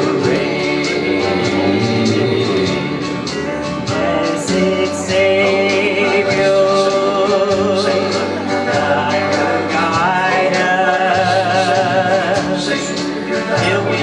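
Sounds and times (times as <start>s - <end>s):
instrumental backing music: 0.0s - 14.0s.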